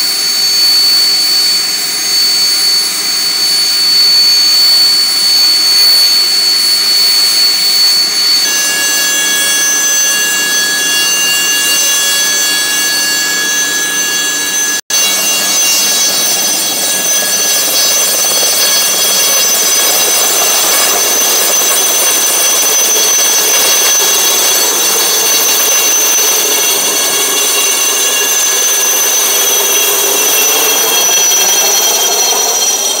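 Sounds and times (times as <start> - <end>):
helicopter engine whine: 0.0 - 33.0
helicopter rotor turning: 0.0 - 33.0.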